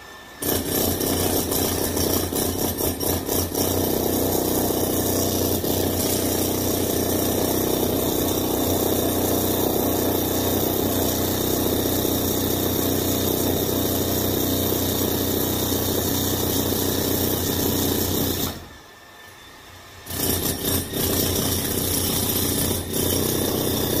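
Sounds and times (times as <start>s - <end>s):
jackhammer breaking concrete: 0.4s - 18.7s, 20.0s - 24.0s.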